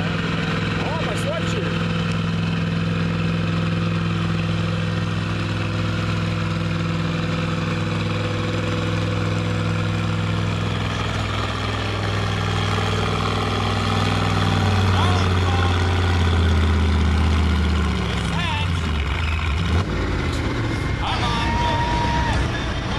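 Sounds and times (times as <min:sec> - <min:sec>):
tractor engine running hard: 0:00.0 - 0:22.9.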